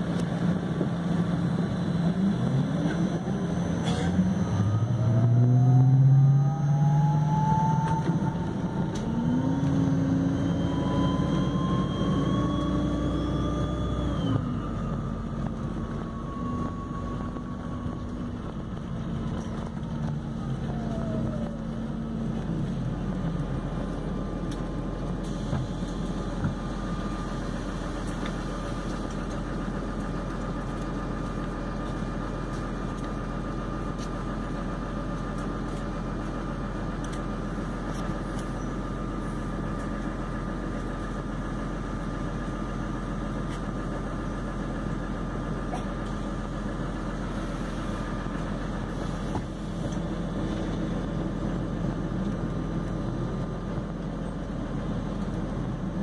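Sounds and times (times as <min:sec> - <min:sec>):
bus drivetrain hum: 0:00.0 - 0:56.0.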